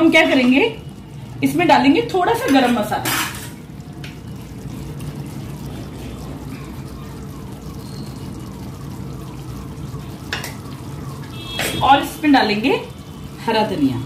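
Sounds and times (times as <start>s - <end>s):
gravy bubbling in a pan: 0.0s - 14.0s.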